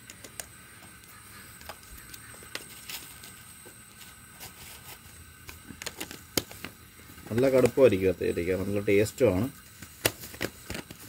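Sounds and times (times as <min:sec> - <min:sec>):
camping stove hiss: 0:00.0 - 0:11.0.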